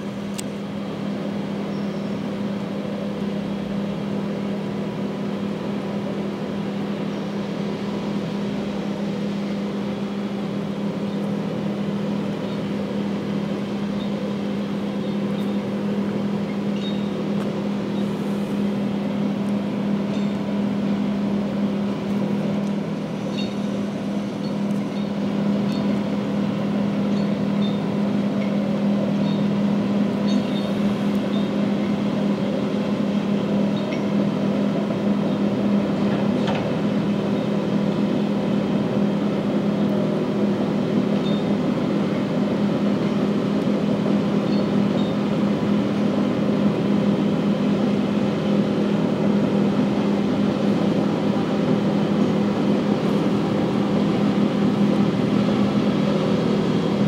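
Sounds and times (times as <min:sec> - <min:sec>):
diesel engine low drone: 0:00.0 - 0:57.0.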